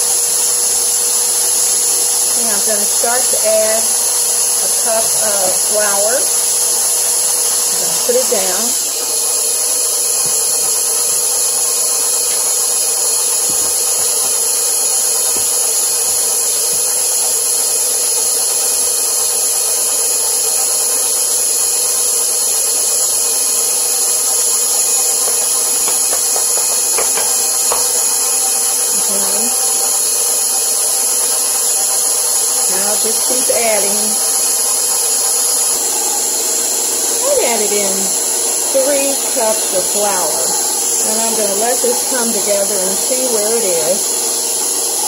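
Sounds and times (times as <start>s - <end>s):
stand mixer motor humming: 0.0s - 45.0s.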